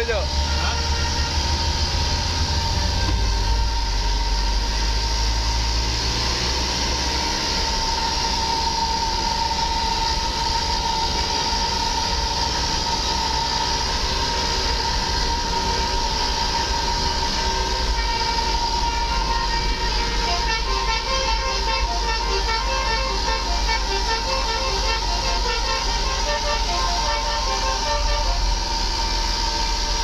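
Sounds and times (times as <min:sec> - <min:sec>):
steady high whine: 0:00.0 - 0:30.0
vehicle engine and tyre noise: 0:00.0 - 0:30.0.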